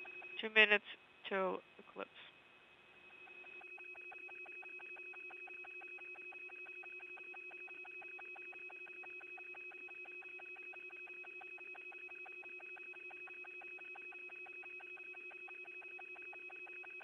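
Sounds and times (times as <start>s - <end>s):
rapid even ticking: 0.0s - 0.4s, 3.0s - 17.0s
high steady electronic tone: 0.0s - 0.5s, 3.0s - 17.0s
low steady electronic tone: 0.0s - 0.6s, 2.8s - 17.0s.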